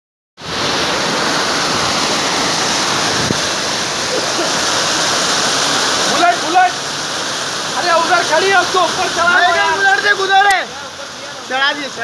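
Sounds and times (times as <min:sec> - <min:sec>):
floodwater rushing: 0:00.4 - 0:12.0.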